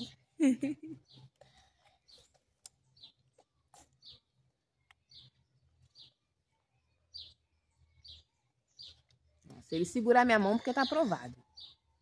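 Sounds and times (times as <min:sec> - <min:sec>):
bird chirping: 0:00.8 - 0:12.0.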